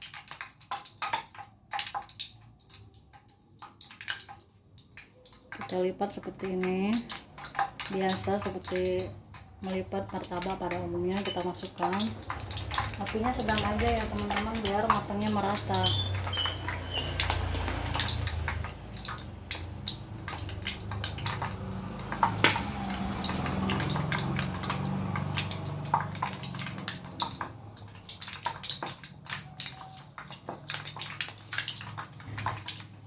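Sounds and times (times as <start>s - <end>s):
hot oil sizzling and popping: 0.0s - 33.0s.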